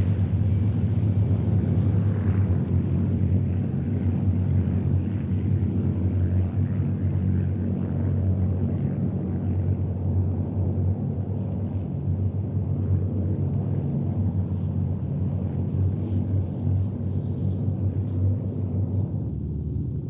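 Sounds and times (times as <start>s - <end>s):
piston aircraft engines droning: 0.0s - 20.0s.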